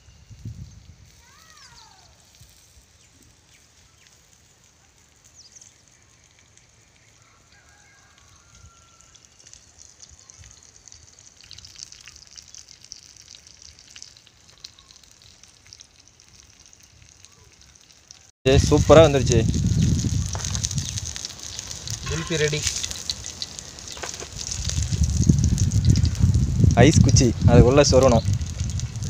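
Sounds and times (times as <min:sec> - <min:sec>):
eggs sizzling in a pan: 0:00.0 - 0:29.0.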